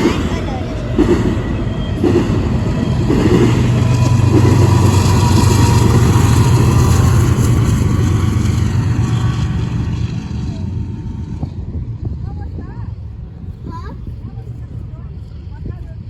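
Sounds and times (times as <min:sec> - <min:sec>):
diesel locomotive engine drone: 0:00.0 - 0:16.0
train rumble: 0:00.0 - 0:16.0.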